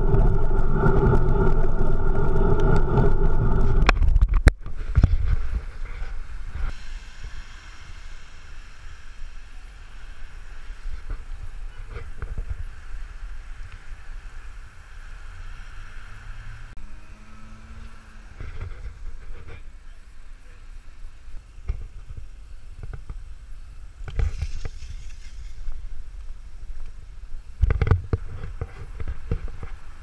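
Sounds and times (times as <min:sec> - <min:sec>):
traffic: 0:00.0 - 0:30.0
wind rumbling on camera: 0:00.0 - 0:30.0
tyres hissing on wet street: 0:05.3 - 0:30.0.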